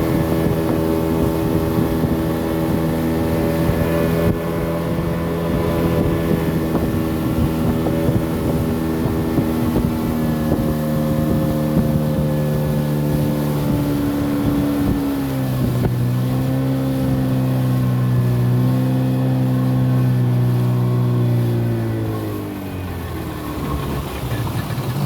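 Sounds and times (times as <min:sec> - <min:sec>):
motorboat engine running: 0:00.0 - 0:25.0.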